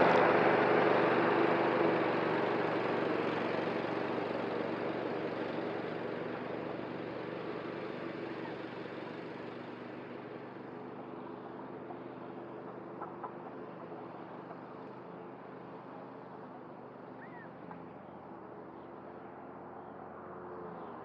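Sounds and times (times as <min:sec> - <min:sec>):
riding mower engine: 0:00.0 - 0:21.0.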